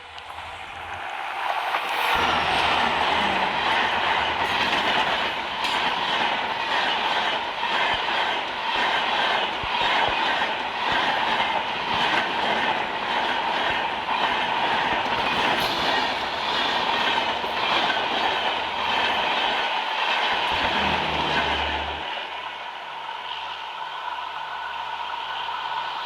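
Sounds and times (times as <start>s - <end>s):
wheels ringing on rails: 0.0s - 26.0s
train wheels clattering: 0.7s - 22.2s.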